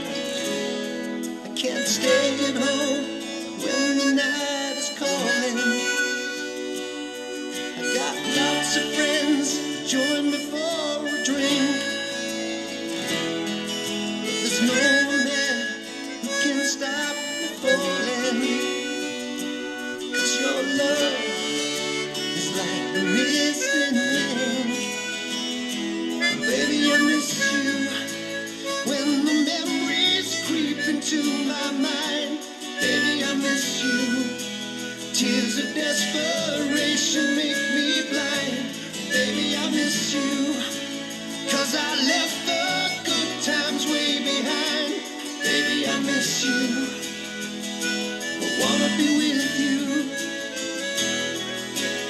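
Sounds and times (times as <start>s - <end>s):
band backing track: 0.0s - 52.0s
chromatic harmonica melody: 0.0s - 52.0s.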